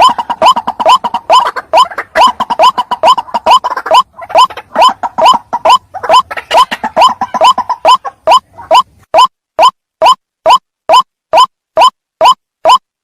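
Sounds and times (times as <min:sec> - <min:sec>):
waterhen calling: 0:00.0 - 0:12.8.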